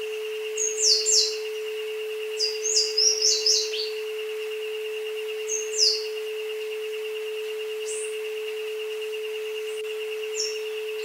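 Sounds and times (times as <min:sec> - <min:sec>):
birds chirping: 0:00.0 - 0:11.0
rapidly pulsing high tone: 0:00.0 - 0:11.0
steady synthesized tone: 0:00.0 - 0:11.0.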